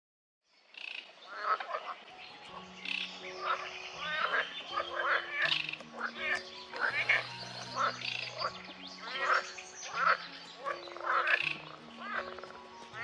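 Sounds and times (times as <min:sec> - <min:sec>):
birds calling and chirping: 0:00.6 - 0:13.0
soft background music: 0:00.6 - 0:13.0.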